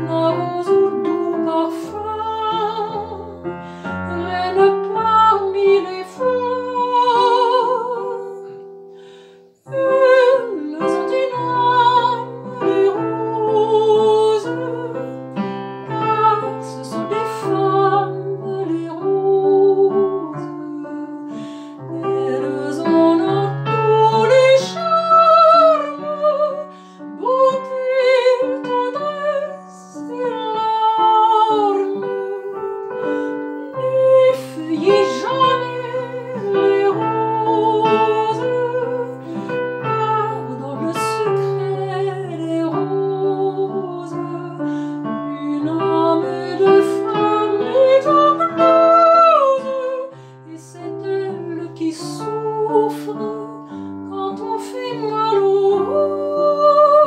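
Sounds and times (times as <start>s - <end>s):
piano accompaniment: 0.0s - 57.0s
woman singing classical song: 0.0s - 57.0s.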